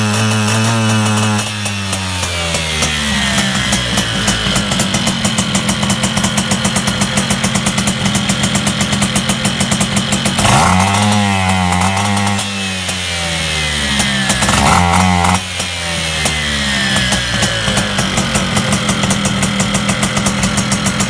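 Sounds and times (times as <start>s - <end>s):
moped engine running: 0.0s - 21.0s.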